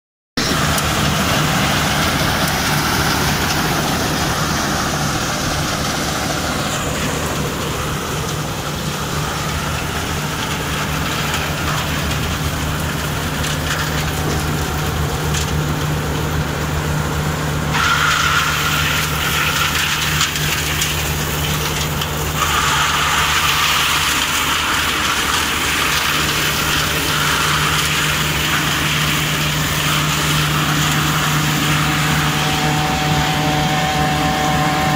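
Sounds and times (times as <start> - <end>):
combine harvester engine: 0.4 - 34.9
rushing noise of threshing: 0.4 - 34.9.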